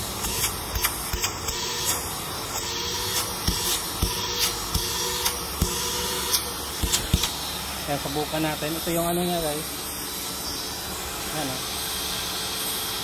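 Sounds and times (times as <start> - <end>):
shop vacuum running: 0.0 - 13.0.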